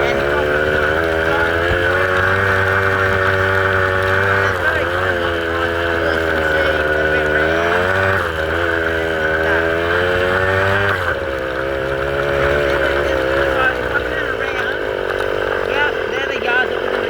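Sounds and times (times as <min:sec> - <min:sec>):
vehicle engine whining: 0:00.0 - 0:17.0.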